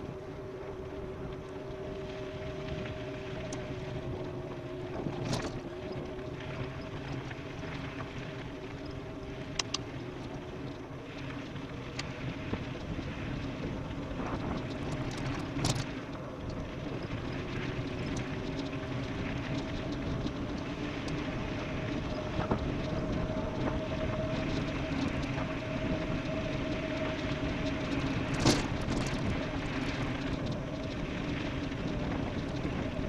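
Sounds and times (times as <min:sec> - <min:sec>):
constant motor hum: 0:00.0 - 0:33.0
wind and tyre noise: 0:00.0 - 0:33.0.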